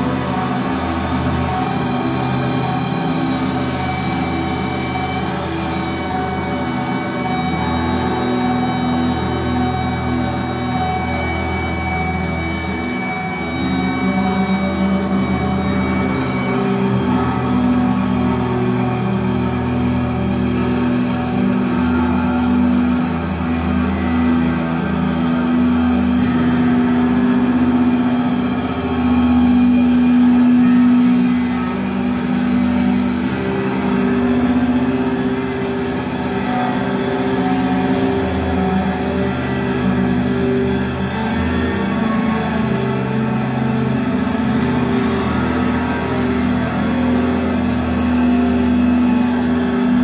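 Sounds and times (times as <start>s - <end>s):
distorted electric guitars droning: 0.0s - 50.0s.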